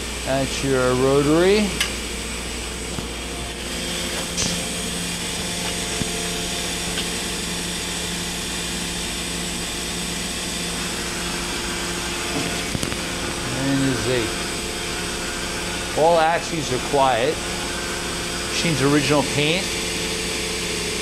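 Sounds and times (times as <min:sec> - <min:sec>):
rotary table mechanical hum: 0:00.0 - 0:21.0.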